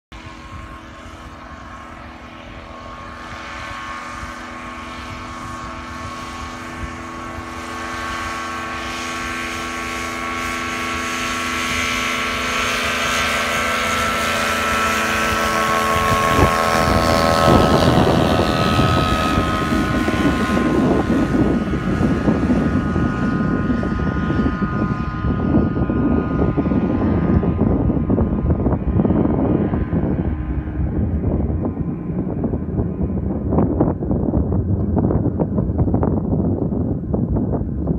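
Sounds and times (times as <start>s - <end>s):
small plane engine and propeller: 0.1s - 37.9s.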